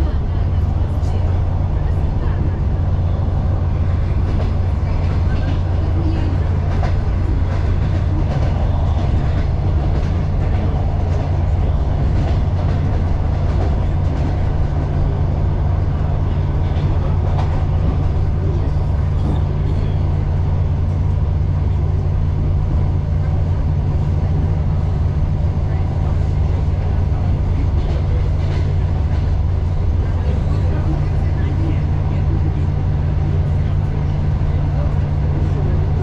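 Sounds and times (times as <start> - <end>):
electric train rumble: 0.0 - 36.0
faint clicks from rails: 3.3 - 21.8, 23.0 - 36.0.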